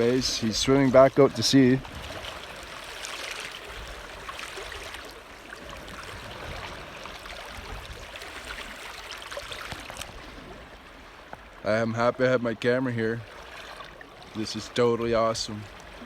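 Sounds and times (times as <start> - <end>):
small water splashes: 0.0 - 11.6, 12.6 - 16.0
seawater lapping: 0.0 - 16.0.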